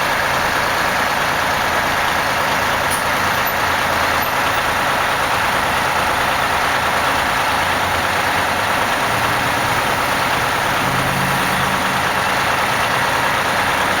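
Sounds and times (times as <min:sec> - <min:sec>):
diesel bus engine idling: 0:00.0 - 0:14.0.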